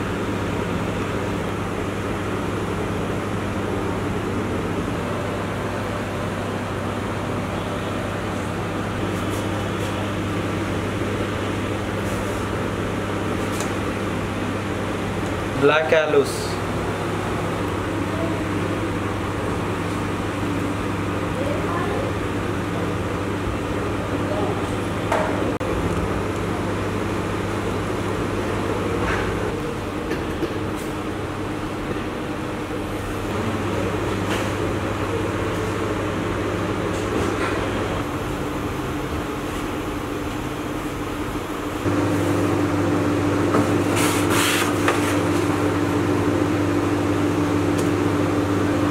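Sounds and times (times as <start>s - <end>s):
machine hum: 0.0s - 48.9s.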